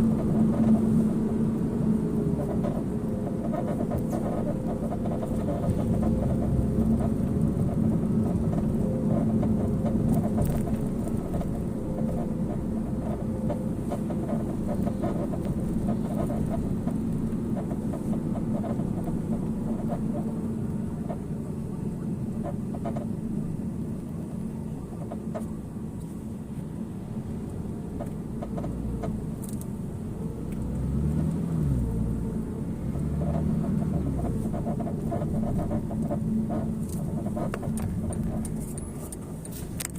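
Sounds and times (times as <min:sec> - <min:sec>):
car road and running noise: 0:00.0 - 0:39.9.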